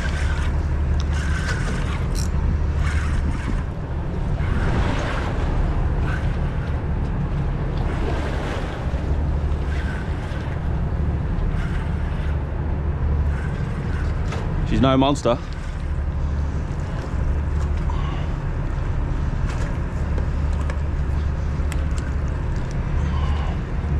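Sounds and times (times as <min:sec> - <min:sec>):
boat engine drone: 0:00.0 - 0:23.9
water splashing against hull: 0:00.0 - 0:23.9
wind buffeting microphone: 0:00.0 - 0:23.9.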